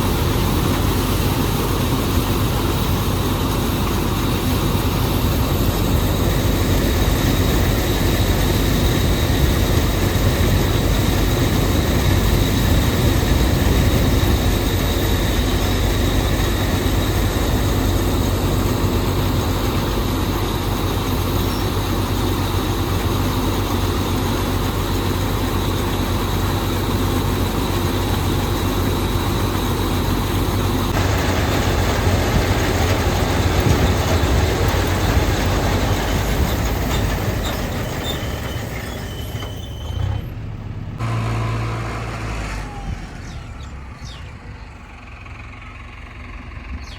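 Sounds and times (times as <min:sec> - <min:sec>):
threshing machinery noise: 0:00.0 - 0:45.0
engine drone: 0:00.0 - 0:46.9.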